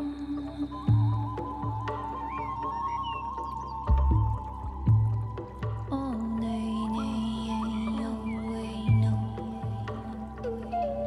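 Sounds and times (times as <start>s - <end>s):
ambient music: 0.0s - 11.0s.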